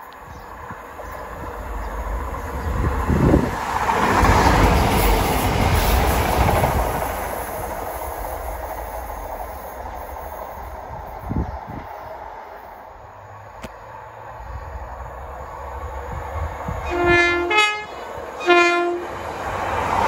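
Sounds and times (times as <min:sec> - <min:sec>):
train passing: 0:00.0 - 0:20.0.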